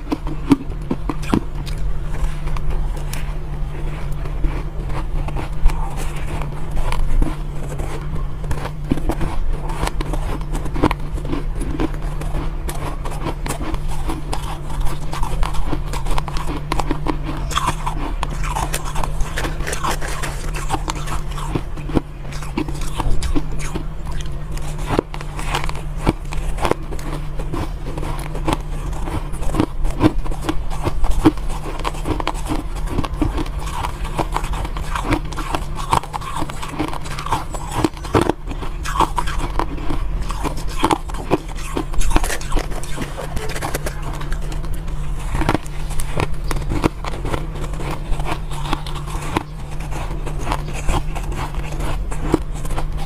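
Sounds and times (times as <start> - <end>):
ice being chewed: 0.0 - 53.0
steady low hum: 0.0 - 53.0.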